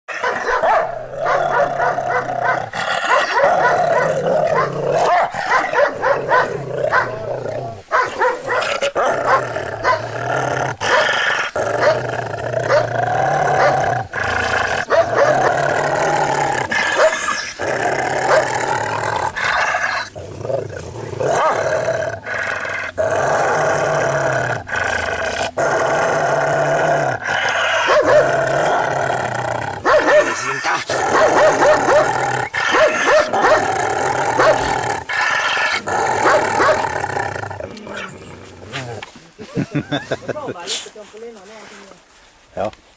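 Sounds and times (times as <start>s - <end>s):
dogs rumbling and crying: 0.1s - 39.2s.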